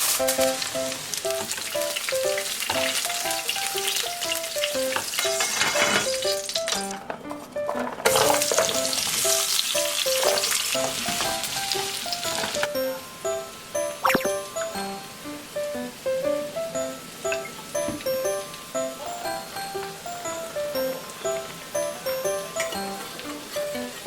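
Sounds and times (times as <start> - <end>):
food sizzling in a frying pan: 0.0 - 7.0, 8.0 - 24.0
light music with plucked notes: 0.0 - 24.0.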